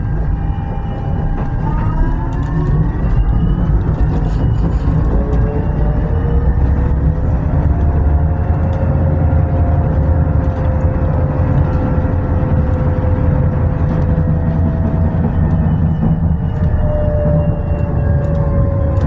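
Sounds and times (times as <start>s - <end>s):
tram rumbling: 0.0s - 19.0s.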